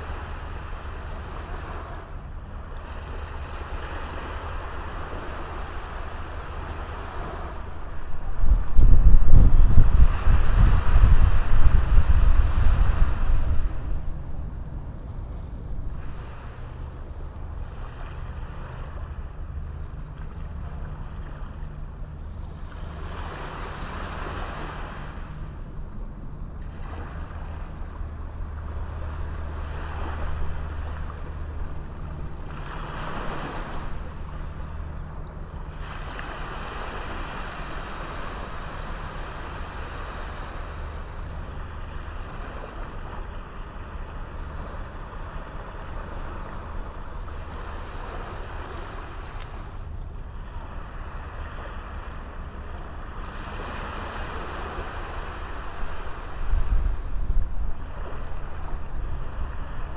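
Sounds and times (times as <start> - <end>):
small waves breaking on beach: 0.0 - 59.9
wind rumble on microphone: 0.0 - 59.9.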